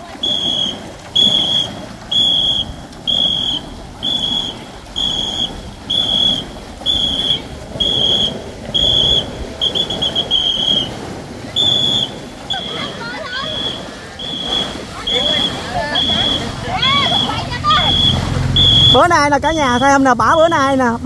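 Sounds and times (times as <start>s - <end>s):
rushing background noise: 0.0s - 21.0s
whistle blasts: 0.1s - 20.9s.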